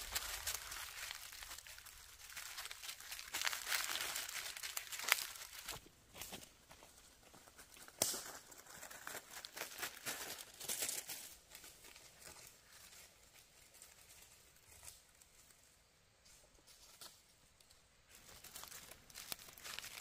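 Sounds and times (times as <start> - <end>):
dry leaves crackling underfoot: 0.0 - 20.0.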